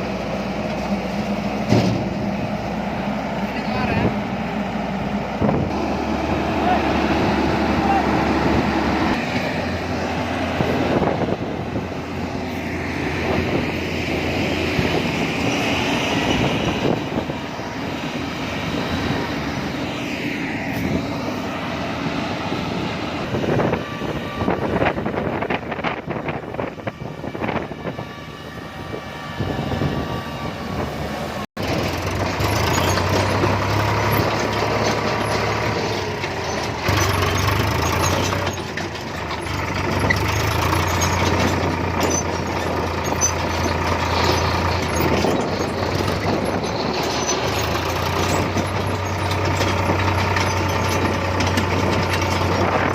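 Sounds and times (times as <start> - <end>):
heavy machinery engines humming: 0.0 - 52.9.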